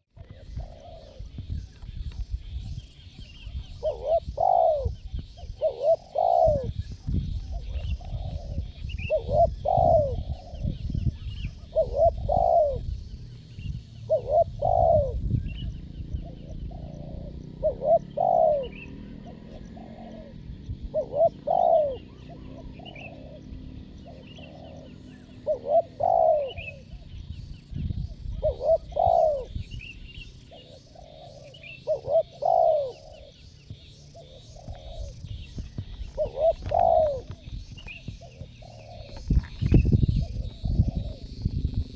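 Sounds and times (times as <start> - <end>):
dove cooing: 0.2 - 41.9.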